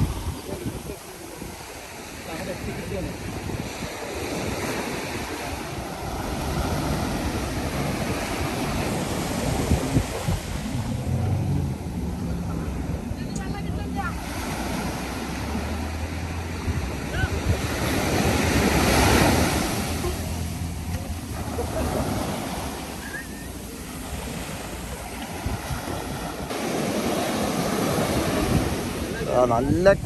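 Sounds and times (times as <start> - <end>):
surf breaking and washing ashore: 0.0 - 30.0
wind buffeting microphone: 0.0 - 30.0.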